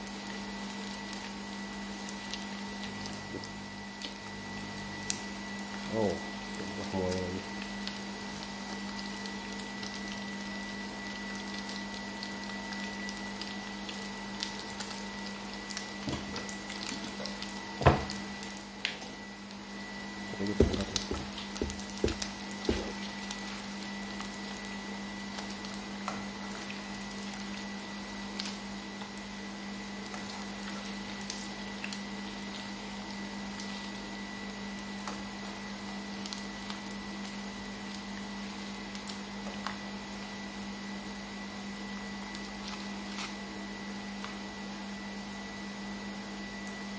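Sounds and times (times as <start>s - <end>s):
deep-frying oil crackling: 0.0s - 45.4s.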